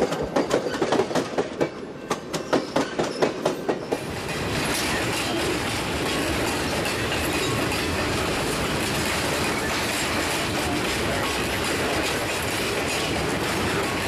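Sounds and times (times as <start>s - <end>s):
rumble of wheels on rail: 0.0s - 14.0s.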